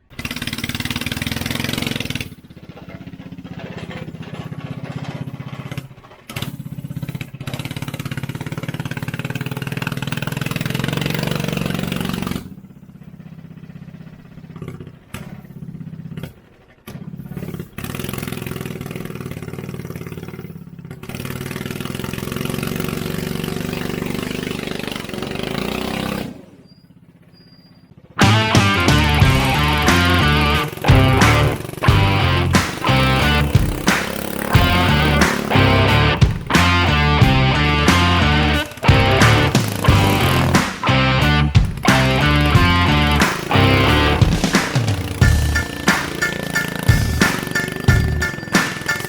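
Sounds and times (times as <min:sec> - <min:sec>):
go-kart engine revving: 0:00.0 - 0:49.0.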